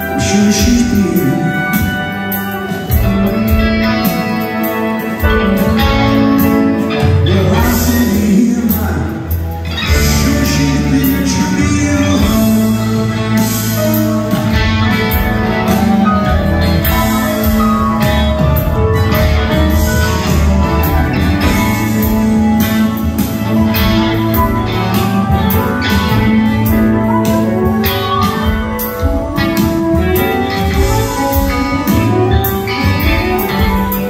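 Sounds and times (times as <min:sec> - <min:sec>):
guitar: 0:00.0 - 0:34.0
live band playing amplified music: 0:00.0 - 0:34.0
piano: 0:00.0 - 0:34.0
upright bass: 0:00.0 - 0:34.0.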